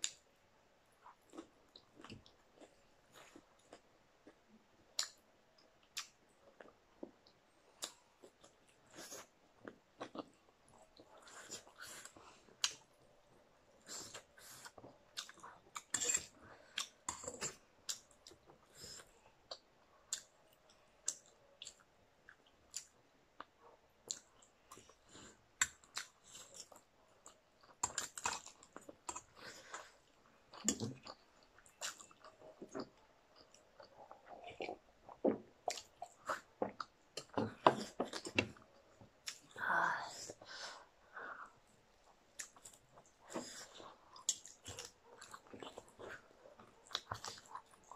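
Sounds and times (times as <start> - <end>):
people chewing and slurping noodles: 5.8 - 20.5, 21.1 - 39.5, 41.4 - 47.9.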